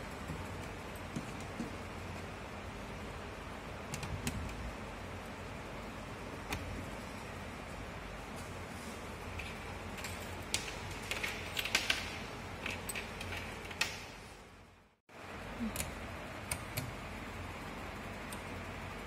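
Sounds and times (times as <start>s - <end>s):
faint mains hum: 0.0s - 19.0s.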